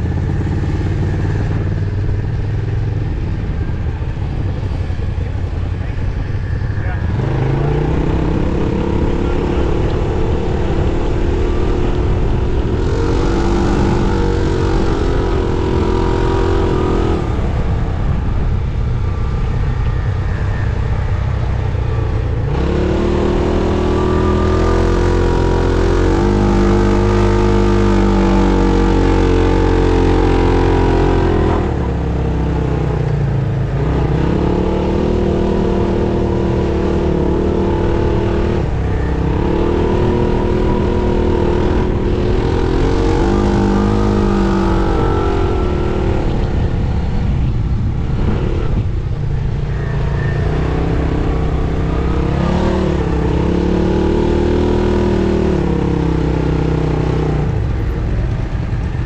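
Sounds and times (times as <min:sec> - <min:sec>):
engine revving under load: 0:00.0 - 0:59.0
steady low rumble: 0:00.0 - 0:59.0.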